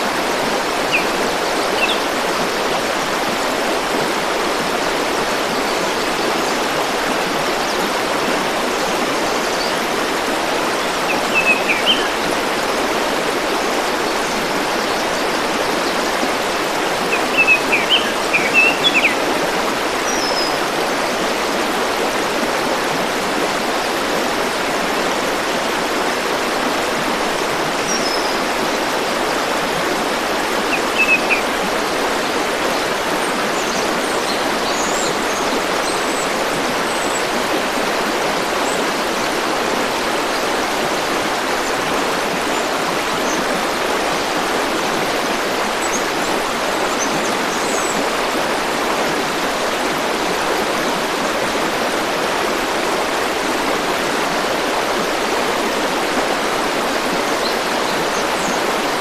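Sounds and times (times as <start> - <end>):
river flowing: 0.0 - 59.0.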